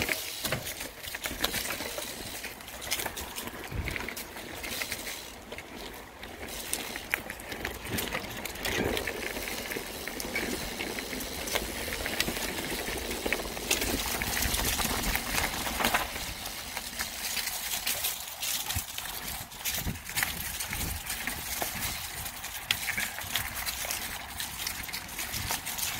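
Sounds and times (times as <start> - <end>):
bike clicks and rattles: 0.0 - 25.9
bike rolling over trail: 0.0 - 25.9.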